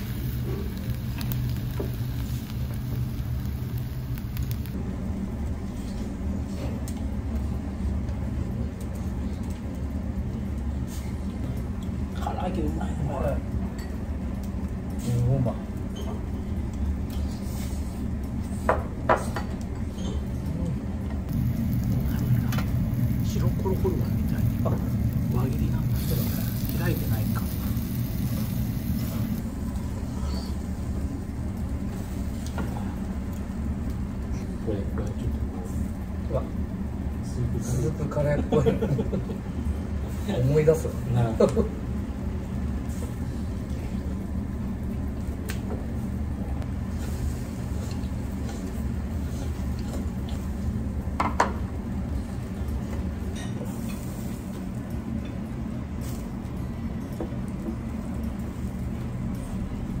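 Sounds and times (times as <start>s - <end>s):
extraction fan low rumble: 0.0s - 60.0s
restaurant background hum: 0.0s - 60.0s.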